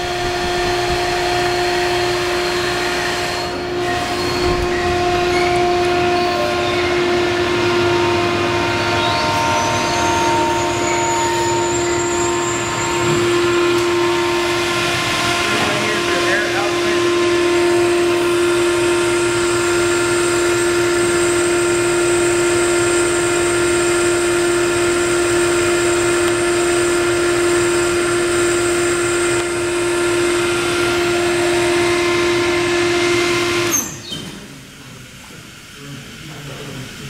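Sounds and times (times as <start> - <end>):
air compressor running: 0.0 - 37.0.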